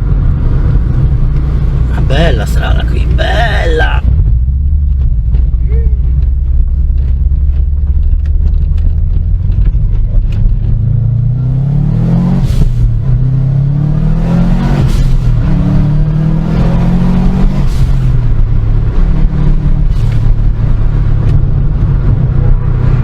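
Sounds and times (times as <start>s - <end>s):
car engine accelerating through gears: 0.0s - 23.0s.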